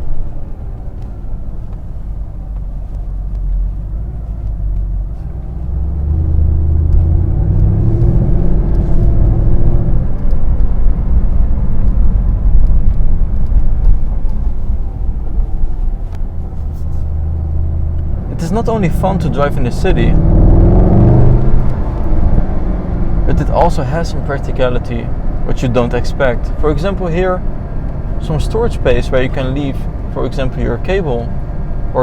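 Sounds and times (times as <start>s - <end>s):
car engine rumbling and accelerating: 0.0s - 32.0s.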